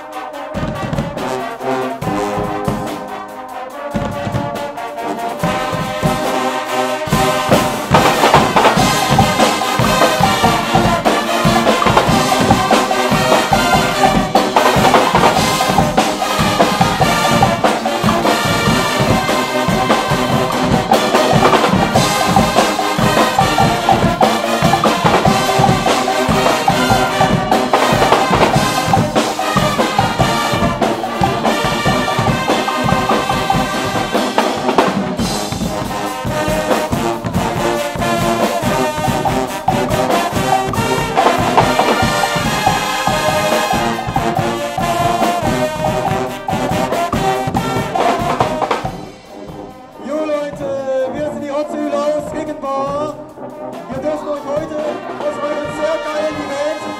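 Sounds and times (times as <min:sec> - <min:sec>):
brass band playing: 0:00.0 - 0:56.9
drum kit beat: 0:00.0 - 0:56.9.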